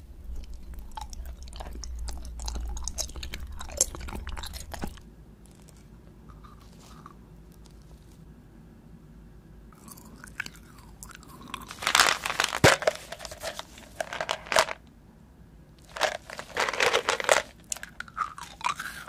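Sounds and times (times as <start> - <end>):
candy crunching: 0.2 - 8.1, 9.8 - 14.8, 15.8 - 19.0.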